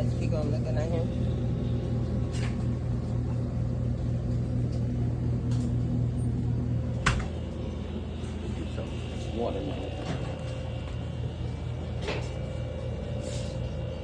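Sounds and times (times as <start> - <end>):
low engine rumble and hum: 0.0 - 14.0.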